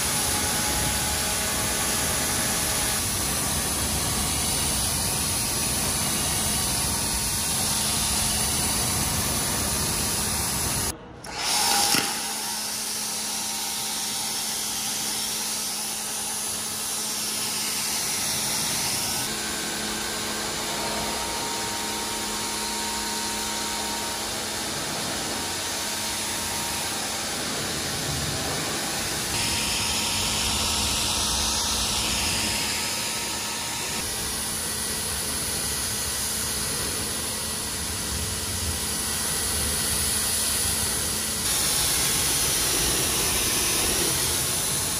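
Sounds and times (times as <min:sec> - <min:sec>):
pressure washer jet hissing: 0:00.0 - 0:44.9
pressure washer motor hum: 0:00.0 - 0:44.9.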